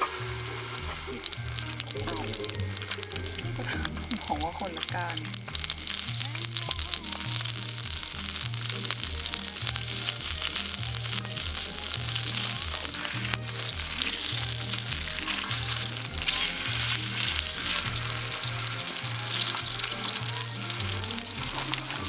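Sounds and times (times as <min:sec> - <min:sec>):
background music with bass line: 0:00.0 - 0:22.0
food sizzling in a pan: 0:00.0 - 0:22.0.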